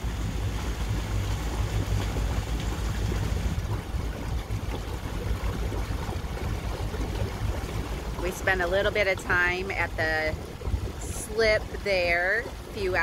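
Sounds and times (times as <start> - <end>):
low engine rumble: 0.0 - 13.0
water moving along boat hull: 0.0 - 13.0
wind: 0.0 - 13.0.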